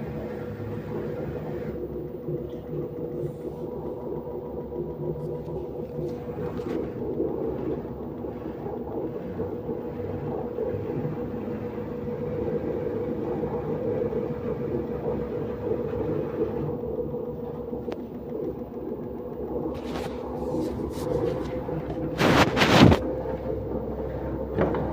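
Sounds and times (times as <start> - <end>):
engine knocking and rattling: 0.0 - 22.2.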